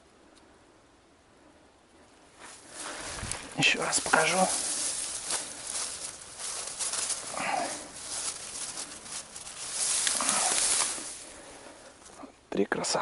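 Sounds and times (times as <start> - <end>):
reeds and grass rustling: 2.0 - 13.0.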